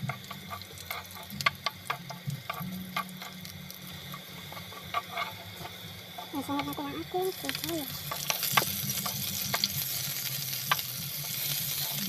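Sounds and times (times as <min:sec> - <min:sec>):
crackles and pops: 0:00.0 - 0:12.0
garlic sizzling in oil: 0:00.0 - 0:12.0
steady low hum: 0:00.0 - 0:12.0.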